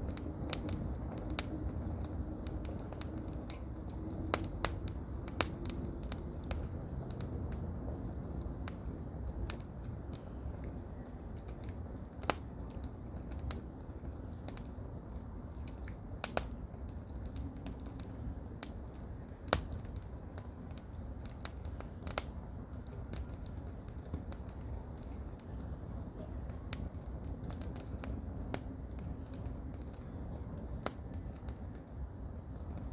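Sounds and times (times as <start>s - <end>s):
firewood crackling and popping: 0.0s - 32.9s.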